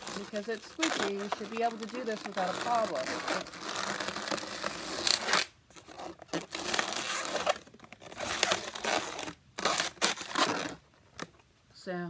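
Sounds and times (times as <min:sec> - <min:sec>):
balloons rubbing and squeaking: 0:00.0 - 0:11.3.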